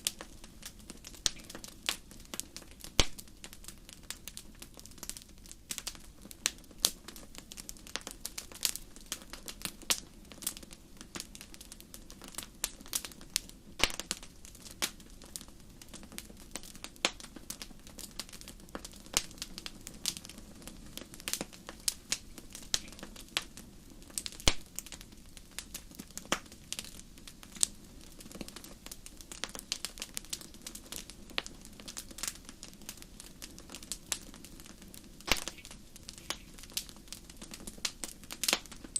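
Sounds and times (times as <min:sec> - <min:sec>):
faint low background noise: 0:00.0 - 0:38.9
wood fire crackling: 0:00.0 - 0:38.9.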